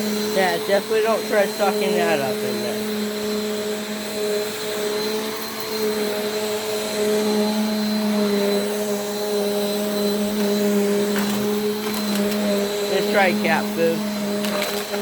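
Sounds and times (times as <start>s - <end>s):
upright vacuum running: 0.0s - 15.0s.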